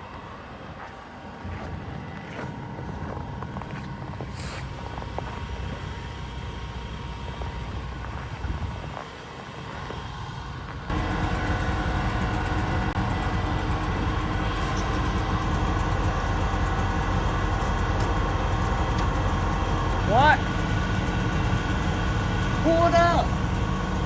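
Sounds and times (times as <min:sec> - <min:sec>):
mechanical rumble with droning hum: 0:00.4 - 0:24.0.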